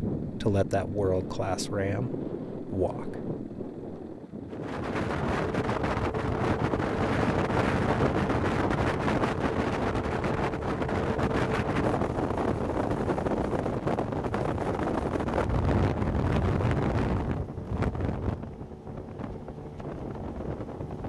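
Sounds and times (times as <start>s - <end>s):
motorboat engine roaring: 0.0s - 21.0s
wind rushing on microphone: 0.0s - 21.0s.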